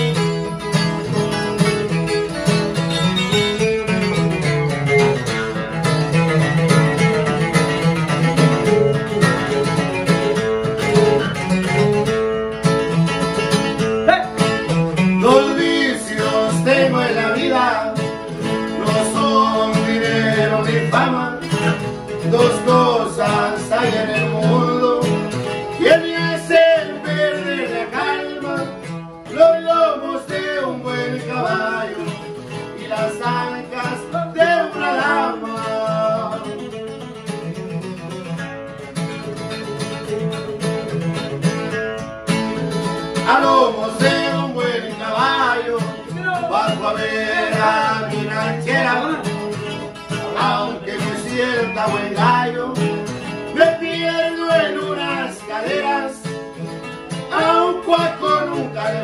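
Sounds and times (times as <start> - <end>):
guitar picking melody: 0.0 - 59.0
guitar playing chords: 0.0 - 59.0.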